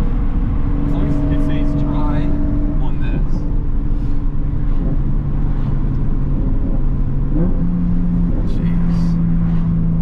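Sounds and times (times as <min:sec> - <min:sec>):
car engine droning: 0:00.0 - 0:10.0.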